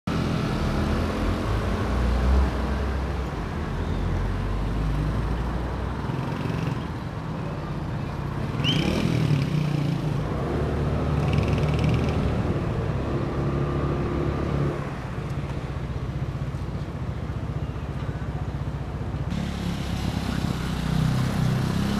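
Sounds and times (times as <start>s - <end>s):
wind and road noise: 0.1s - 21.9s.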